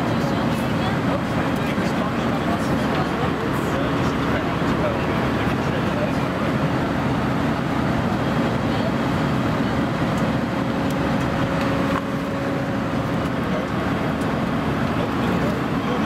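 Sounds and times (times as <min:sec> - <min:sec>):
airliner cabin noise: 0:00.0 - 0:16.0.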